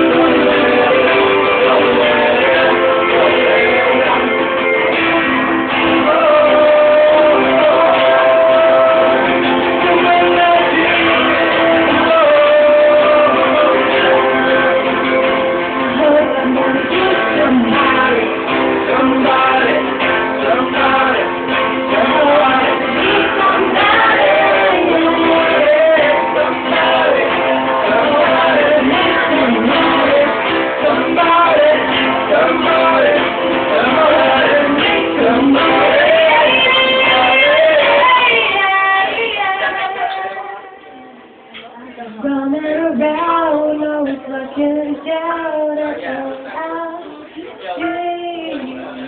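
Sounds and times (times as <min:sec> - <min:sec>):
guitar: 0:00.0 - 0:49.0
person singing: 0:00.0 - 0:49.0.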